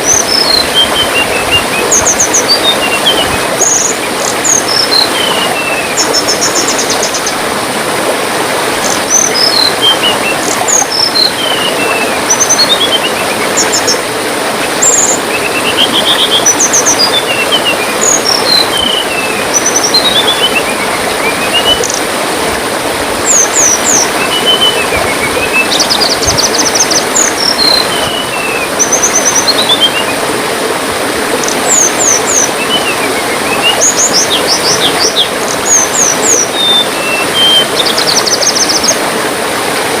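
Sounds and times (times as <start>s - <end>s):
songbird singing: 0.0s - 7.4s, 8.8s - 22.1s, 23.2s - 30.2s, 31.3s - 39.0s
trickling water: 0.0s - 40.0s.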